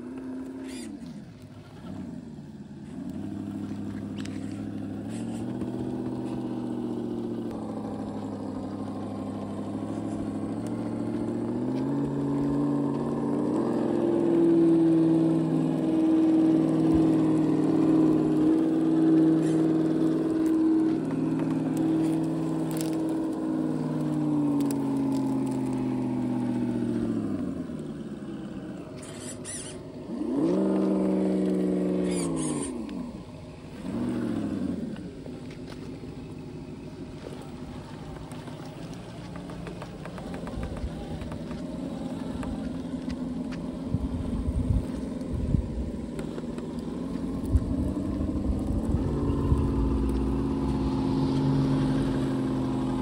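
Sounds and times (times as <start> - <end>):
rc car motor whine: 0.0 - 53.0.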